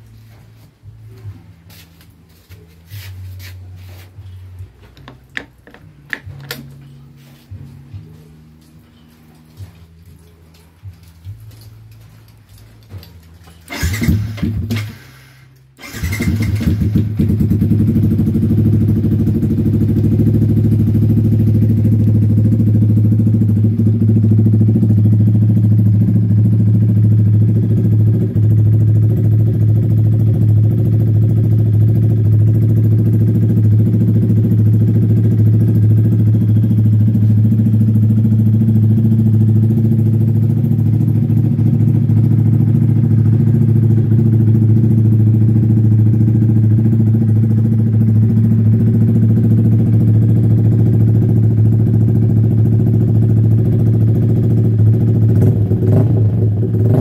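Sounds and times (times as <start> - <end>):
motorcycle engine idling: 0.1 - 57.0.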